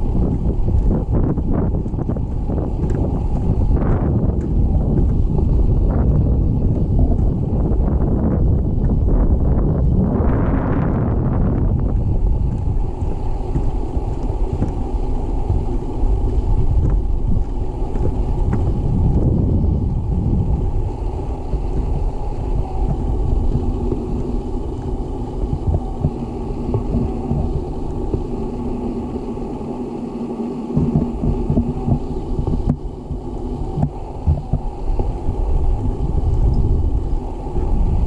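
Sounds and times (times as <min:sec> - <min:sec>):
faint low hum: 0:00.0 - 0:38.0
wind buffeting microphone: 0:00.0 - 0:38.0.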